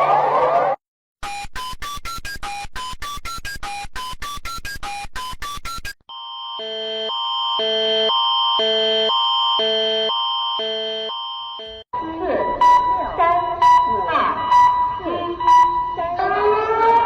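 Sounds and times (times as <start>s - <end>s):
short beeps stepping through pitches: 1.3s - 16.2s.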